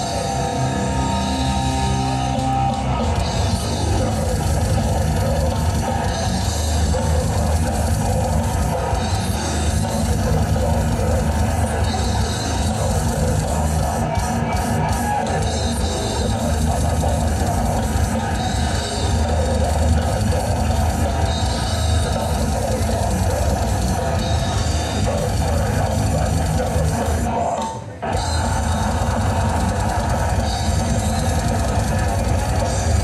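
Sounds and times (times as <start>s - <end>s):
death metal band playing live: 0.0s - 33.0s.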